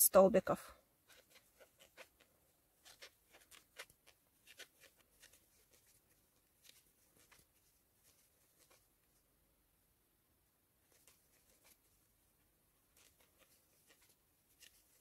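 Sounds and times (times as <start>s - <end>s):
crochet hook scratching yarn: 0.0s - 9.3s, 10.8s - 15.0s.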